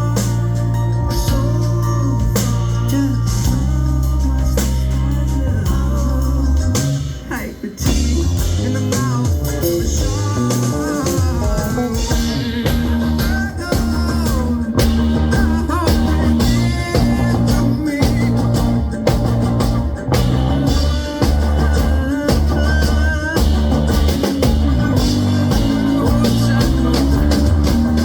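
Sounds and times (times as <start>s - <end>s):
electric guitar: 0.0s - 28.0s
live rock band playing: 0.0s - 28.0s.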